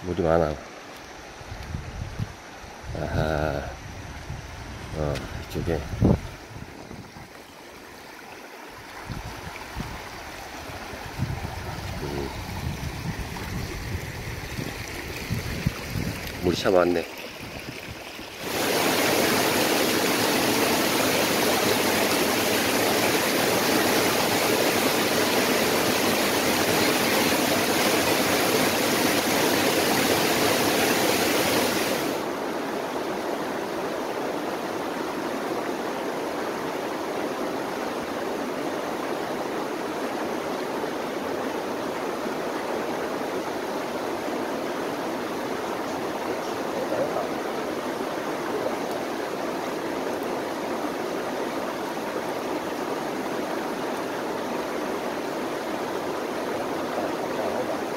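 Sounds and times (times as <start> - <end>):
stream flowing over stones: 0.1 - 57.9.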